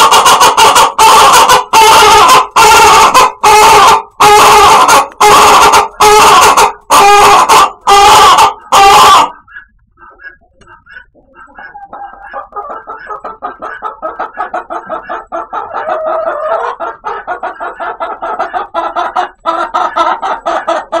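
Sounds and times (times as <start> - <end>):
chicken clucking: 0.0 - 21.0.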